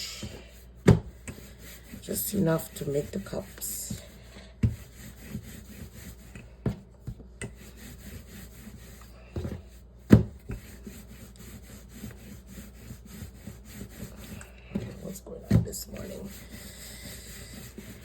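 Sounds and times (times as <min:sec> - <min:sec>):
dough rubbed by hand: 0:00.0 - 0:18.0.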